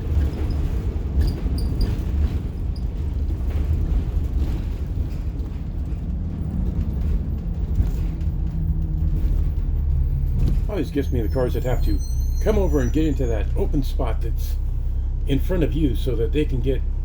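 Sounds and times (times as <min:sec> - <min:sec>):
bus diesel engine rumble: 0:00.0 - 0:17.0.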